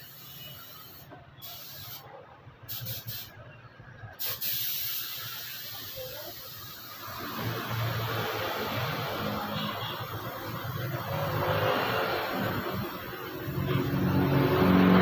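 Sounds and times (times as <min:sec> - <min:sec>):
air spray gun hissing: 0:00.0 - 0:02.1, 0:02.7 - 0:03.4, 0:04.2 - 0:15.0.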